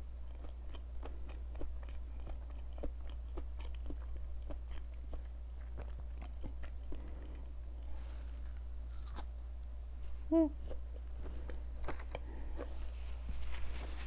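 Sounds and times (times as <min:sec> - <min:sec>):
low steady hum: 0:00.0 - 0:14.0
chewing crunchy food: 0:00.1 - 0:09.7, 0:10.6 - 0:14.0.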